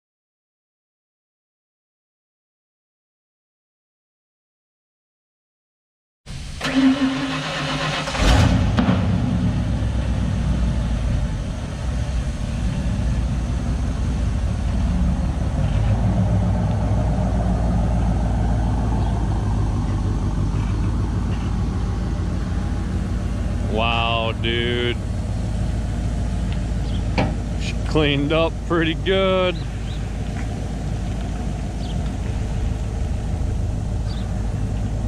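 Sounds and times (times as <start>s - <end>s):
truck engine starting and running: 6.3s - 35.0s.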